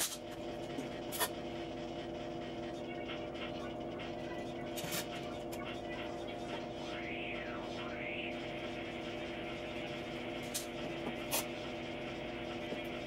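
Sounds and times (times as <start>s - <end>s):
workshop machinery hum: 0.0s - 13.0s.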